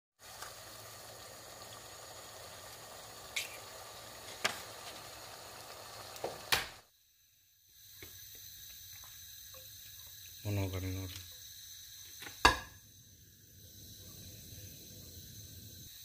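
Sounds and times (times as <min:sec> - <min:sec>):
eggs frying in hot oil: 0:00.2 - 0:06.9, 0:07.6 - 0:16.0
faint oil hiss in pan: 0:00.2 - 0:06.9, 0:07.6 - 0:16.0.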